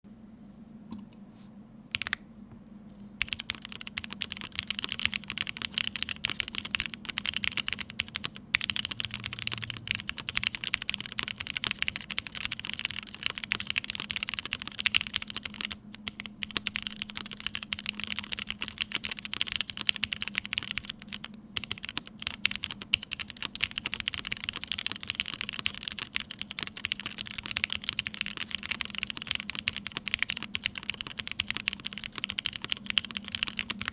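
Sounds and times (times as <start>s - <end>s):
typing on a mechanical keyboard: 1.9s - 2.2s, 3.2s - 33.9s.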